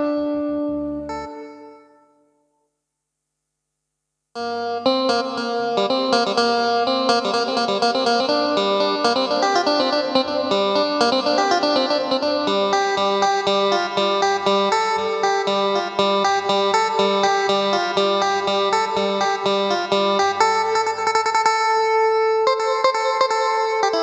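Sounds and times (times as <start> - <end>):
keyboard playing plucked guitar notes: 0.0 - 2.0, 4.4 - 24.0.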